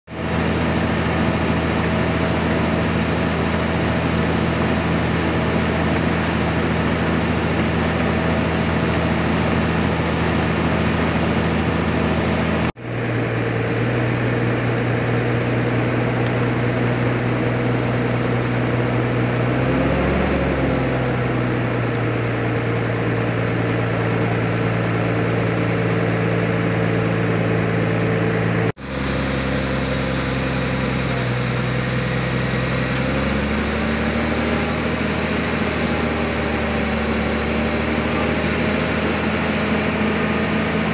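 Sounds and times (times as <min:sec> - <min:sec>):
truck engine running: 0:00.1 - 0:40.9.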